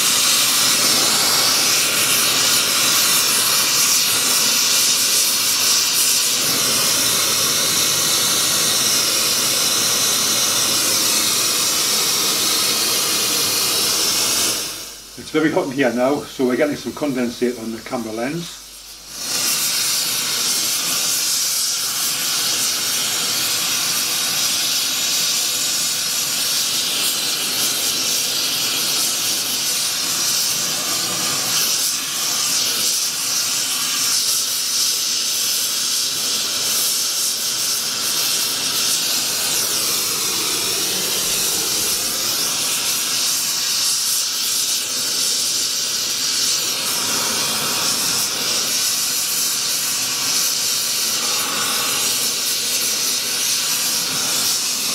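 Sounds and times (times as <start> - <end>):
gas torch hissing: 0.0 - 54.9.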